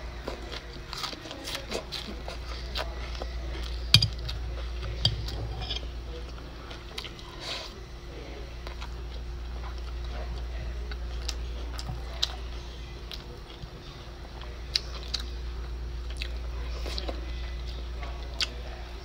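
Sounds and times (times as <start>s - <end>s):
low steady hum: 0.0s - 19.0s
chewing: 0.2s - 7.8s, 8.6s - 18.8s.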